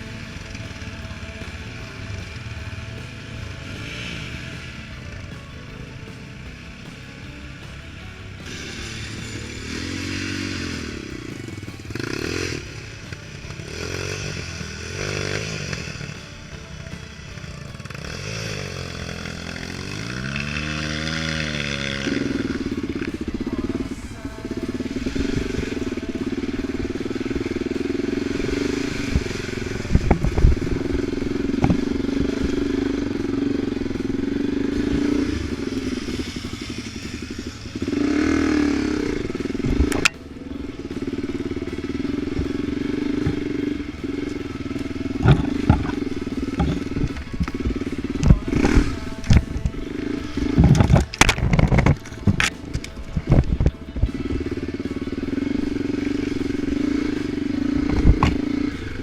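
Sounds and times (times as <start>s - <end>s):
off-road vehicle engine working hard: 0.0s - 59.0s.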